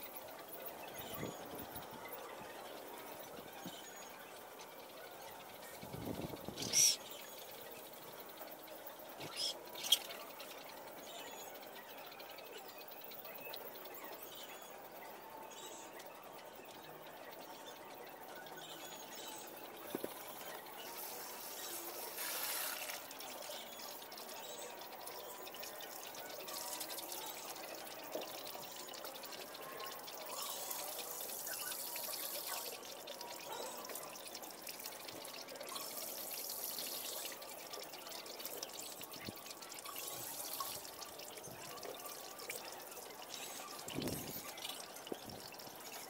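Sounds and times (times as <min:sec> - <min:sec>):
water trickling and pouring: 0:00.0 - 0:46.0.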